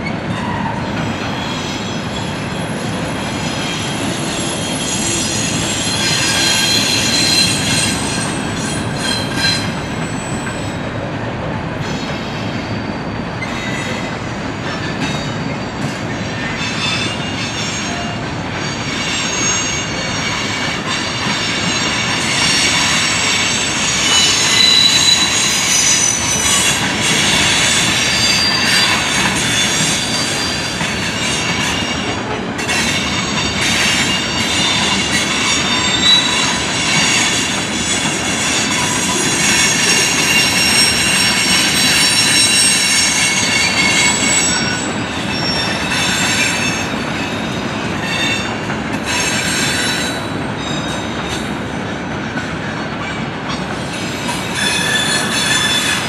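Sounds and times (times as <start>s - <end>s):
steel wheels rumbling on rail: 0.0s - 56.0s
high thin wheel squeals: 0.1s - 10.8s, 11.9s - 14.2s, 14.8s - 51.5s, 53.9s - 56.0s.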